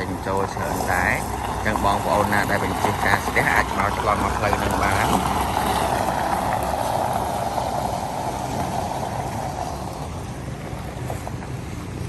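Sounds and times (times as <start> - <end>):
model truck motor and gears: 0.0 - 12.0.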